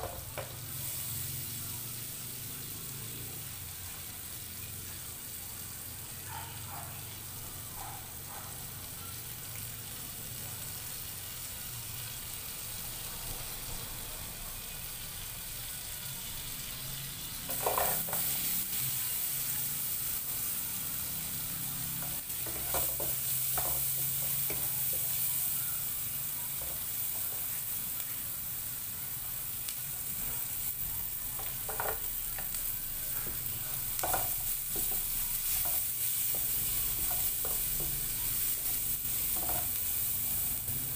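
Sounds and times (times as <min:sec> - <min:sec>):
oil sizzling in a frying pan: 0:00.0 - 0:40.9.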